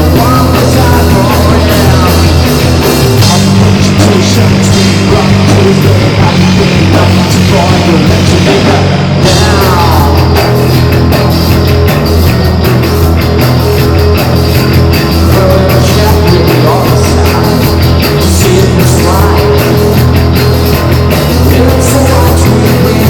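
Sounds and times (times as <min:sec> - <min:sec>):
bass line: 0:00.0 - 0:23.0
live rock band playing: 0:00.0 - 0:23.0.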